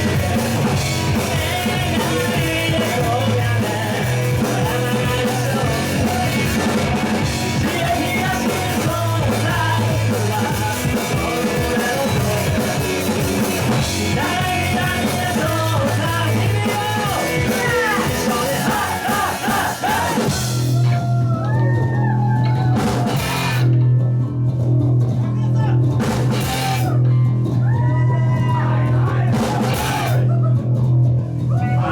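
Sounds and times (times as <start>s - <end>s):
shouted singing: 0.0s - 23.7s, 26.4s - 30.6s, 31.5s - 31.9s
drums and cymbals: 0.0s - 23.8s, 24.6s - 31.9s
bass guitar: 0.0s - 31.9s
electric guitar: 0.0s - 31.9s.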